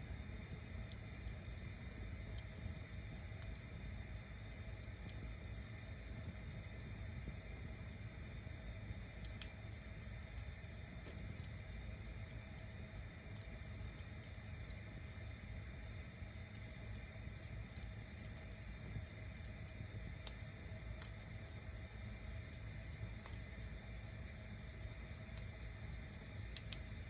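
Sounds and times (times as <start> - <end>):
bonfire flame rushing: 0.0 - 27.0
wood crackling and popping: 0.0 - 27.0.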